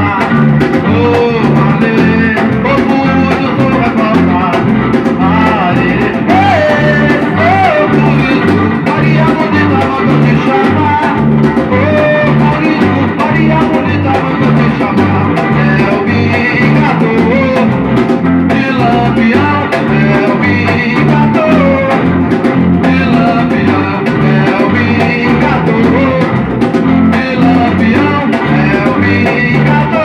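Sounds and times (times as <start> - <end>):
band playing samba-reggae: 0.0 - 30.0.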